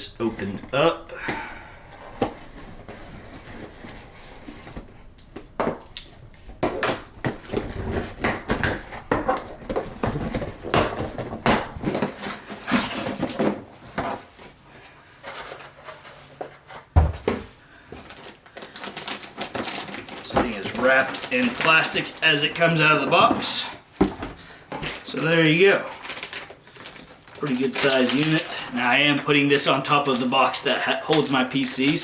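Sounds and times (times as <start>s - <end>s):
cardboard packaging rustling: 0.0s - 14.6s, 17.9s - 32.0s.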